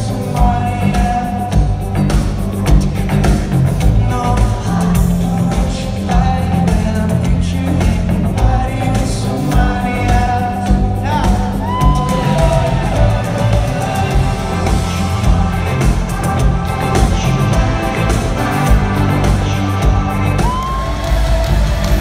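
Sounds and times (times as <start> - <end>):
live pop-rock band playing: 0.0 - 22.0
person singing: 0.0 - 22.0.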